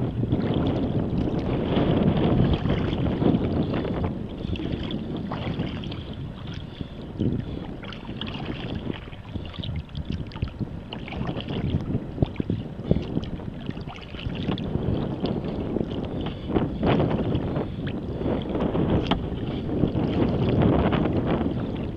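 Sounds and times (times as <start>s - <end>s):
water splashing around kayak: 0.0s - 21.9s
wind buffeting microphone: 0.0s - 21.9s.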